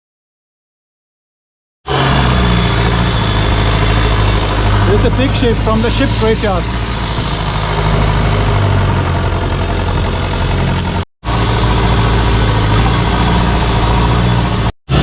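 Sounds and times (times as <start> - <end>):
boat engine drone: 1.9 - 15.0.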